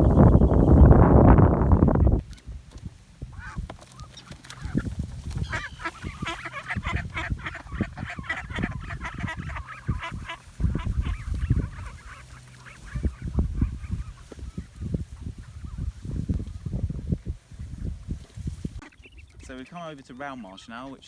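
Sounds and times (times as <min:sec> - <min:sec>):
ducks quacking: 0:03.3 - 0:18.1, 0:18.8 - 0:21.0.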